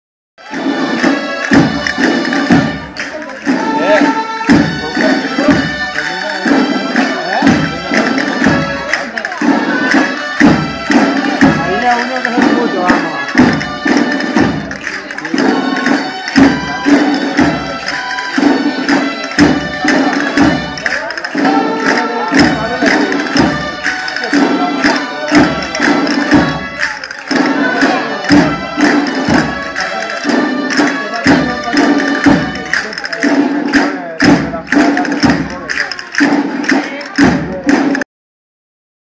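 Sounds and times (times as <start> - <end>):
folk dance music: 0.4 - 38.0.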